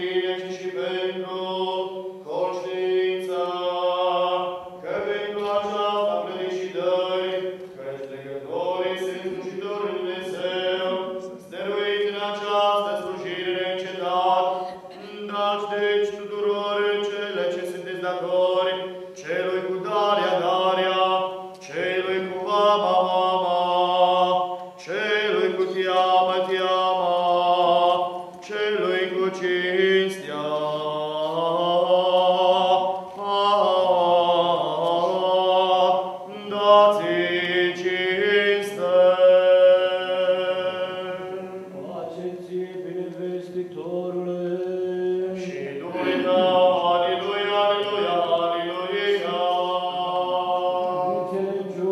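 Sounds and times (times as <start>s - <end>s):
unaccompanied liturgical chant: 0.0s - 51.9s.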